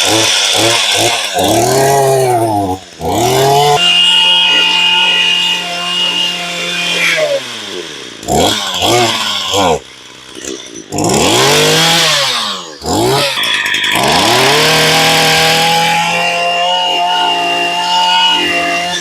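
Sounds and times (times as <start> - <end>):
brush cutter engine revving: 0.0 - 19.0.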